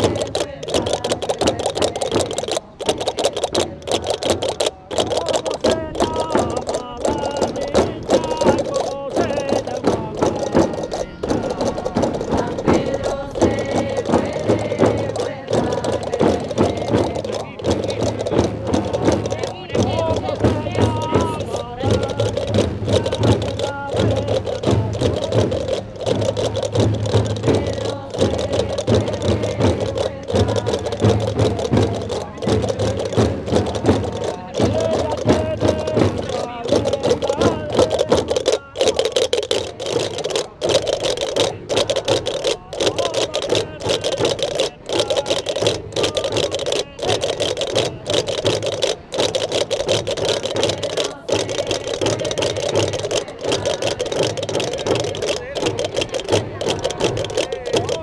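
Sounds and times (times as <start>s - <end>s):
drums beating processional rhythm: 0.0s - 58.0s
wooden castanets rattling: 0.0s - 58.0s.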